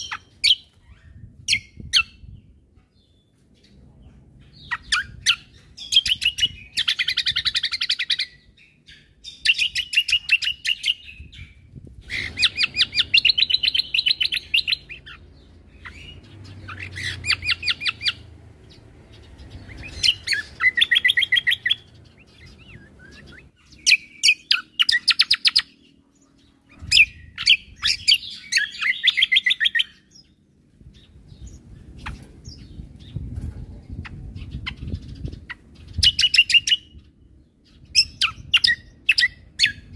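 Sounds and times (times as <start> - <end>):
songbird singing stuttering notes: 0.0 - 3.8, 4.5 - 39.9.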